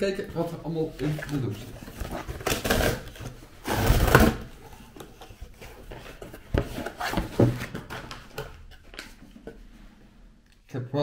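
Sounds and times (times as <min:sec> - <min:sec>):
cardboard packaging rustling: 0:00.0 - 0:09.6.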